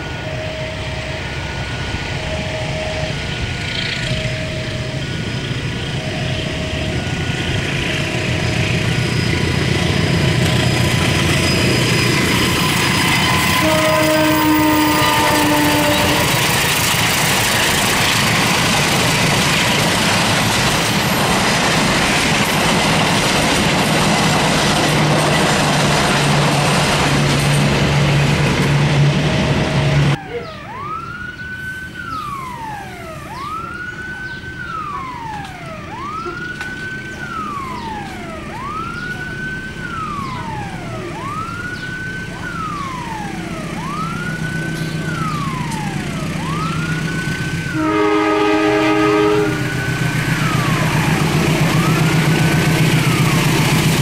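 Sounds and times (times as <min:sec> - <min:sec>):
level crossing siren wailing: 0:00.0 - 0:24.6, 0:27.8 - 0:54.0
locomotive engine hum: 0:00.0 - 0:54.0
wheel-on-rail noise: 0:00.0 - 0:54.0.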